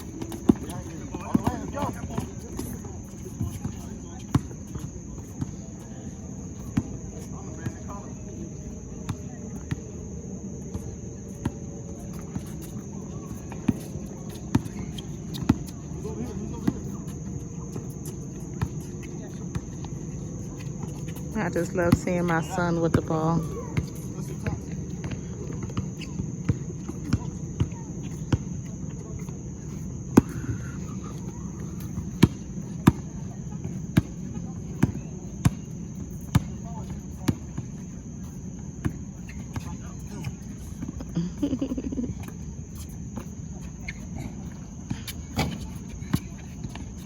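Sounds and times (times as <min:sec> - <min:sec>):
crickets chirring: 0:00.0 - 0:47.0.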